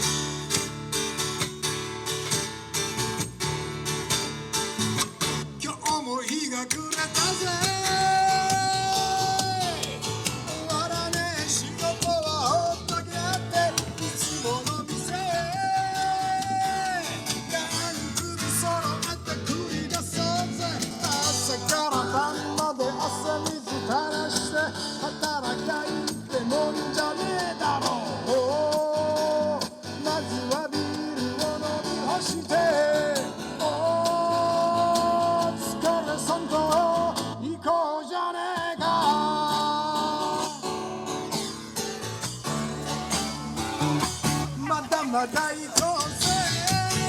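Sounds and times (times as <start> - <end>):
acoustic guitar strumming: 0.0 - 37.7, 38.4 - 47.0
man singing: 5.5 - 41.6, 42.8 - 47.0.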